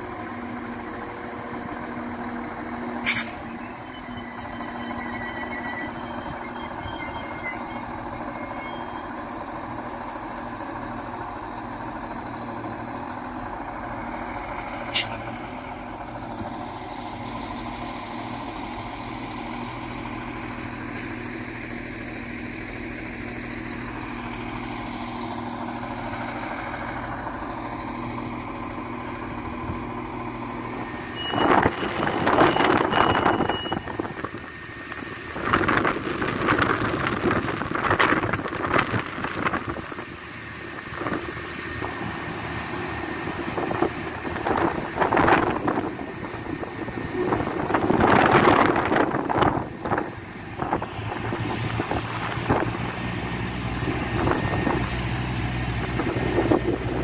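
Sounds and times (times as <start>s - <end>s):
train diesel engines running: 0.0s - 57.0s.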